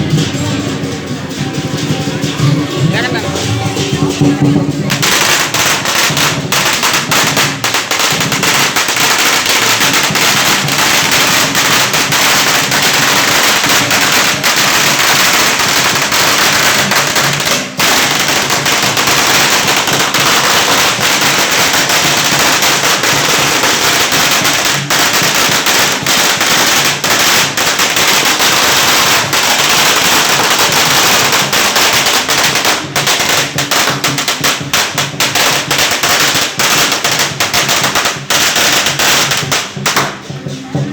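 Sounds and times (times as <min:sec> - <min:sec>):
firecrackers going off: 0:00.0 - 0:40.9.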